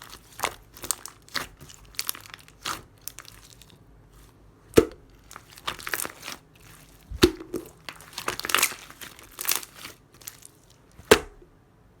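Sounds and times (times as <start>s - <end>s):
slime popping: 0.0s - 3.7s, 4.8s - 11.4s
slime squelching: 0.0s - 11.4s.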